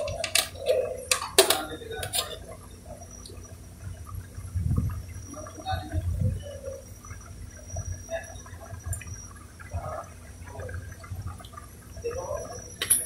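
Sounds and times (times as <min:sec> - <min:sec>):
water boiling and bubbling: 0:00.0 - 0:13.0.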